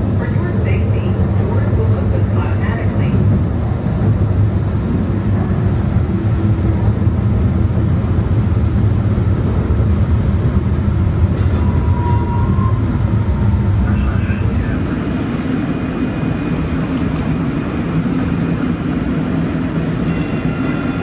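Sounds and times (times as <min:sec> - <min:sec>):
light rail vehicle rumbling: 0:00.0 - 0:21.0.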